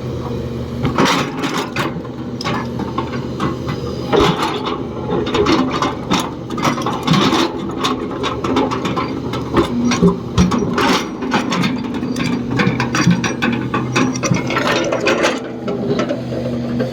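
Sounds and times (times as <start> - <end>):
excavator diesel engine running: 0.0 - 16.9
knocks and metallic rattles: 0.9 - 16.9.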